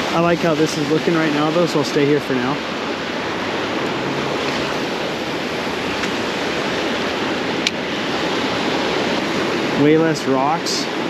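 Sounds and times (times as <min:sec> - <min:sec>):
ocean surf on a beach: 0:00.0 - 0:11.0.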